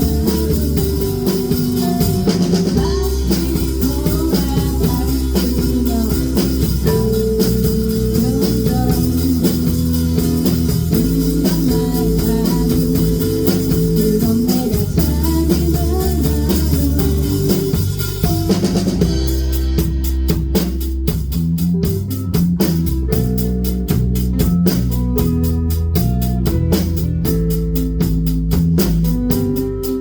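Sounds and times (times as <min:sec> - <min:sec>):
live band instrumental: 0:00.0 - 0:30.0.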